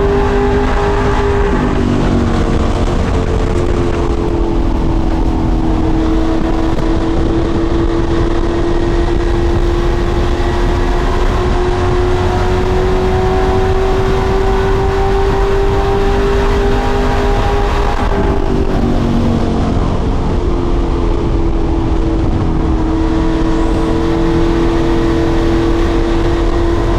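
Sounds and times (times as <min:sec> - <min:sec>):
truck engine running hard: 0:00.0 - 0:26.9.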